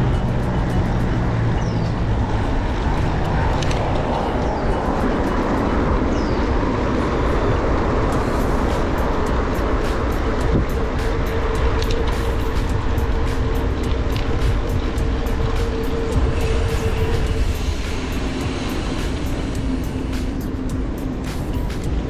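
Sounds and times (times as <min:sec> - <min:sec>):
low hum: 0:00.0 - 0:22.0
road traffic noise: 0:00.0 - 0:22.0
wind on microphone: 0:00.0 - 0:22.0.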